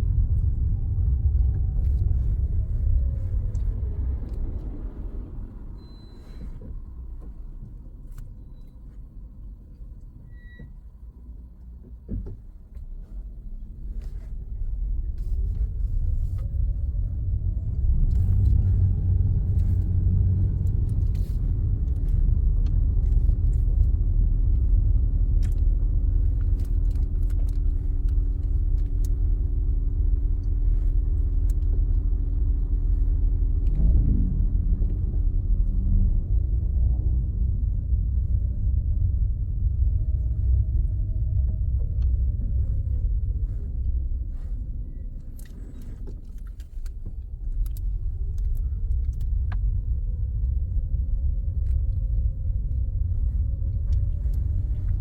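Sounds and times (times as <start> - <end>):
car engine: 0.0 - 8.3, 12.1 - 55.0
road rumble: 0.0 - 55.0.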